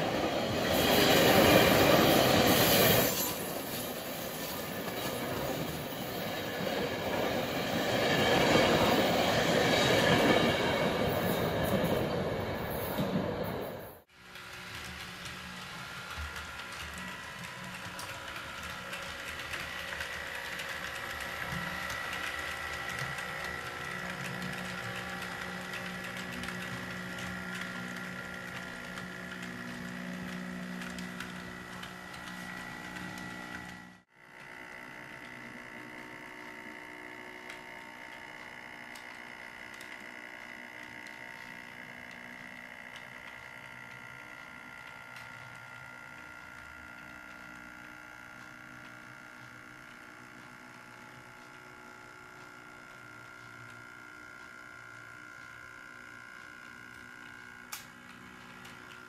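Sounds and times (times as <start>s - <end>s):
model train motor whine: 0.0s - 59.0s
wheels clicking on rails: 0.0s - 59.0s.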